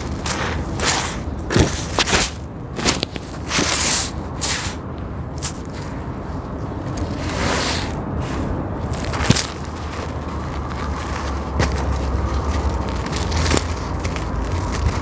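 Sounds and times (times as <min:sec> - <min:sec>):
hands raking through gritty sand: 0:00.0 - 0:04.8, 0:07.0 - 0:15.0.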